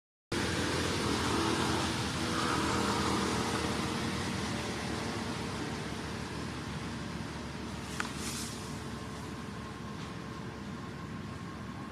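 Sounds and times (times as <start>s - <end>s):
low engine-like hum: 0.3s - 11.9s.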